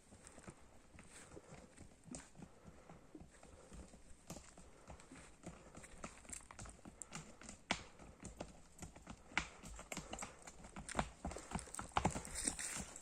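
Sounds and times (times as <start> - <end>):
horse hooves clopping: 0.0 - 13.0.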